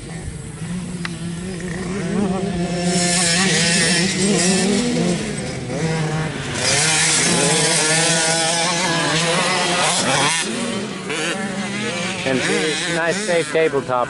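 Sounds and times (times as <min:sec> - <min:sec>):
atv engines revving: 0:00.0 - 0:14.0.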